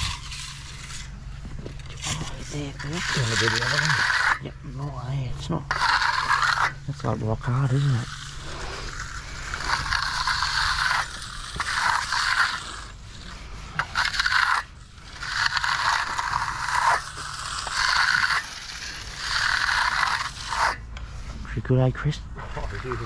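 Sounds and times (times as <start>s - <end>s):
tool scraping concrete: 0.0s - 23.0s.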